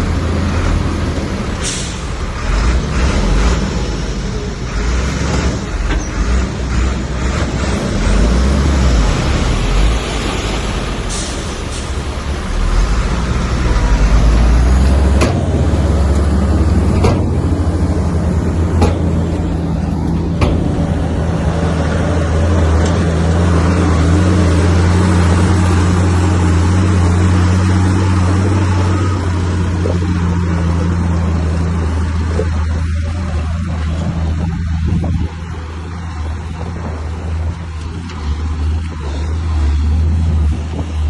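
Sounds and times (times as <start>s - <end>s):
heavy diesel engine running: 0.0s - 41.0s.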